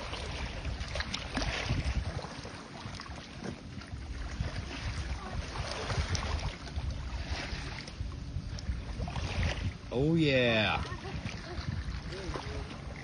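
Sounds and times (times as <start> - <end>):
low uneven rumble: 0.0 - 13.0
wind buffeting microphone: 0.0 - 13.0.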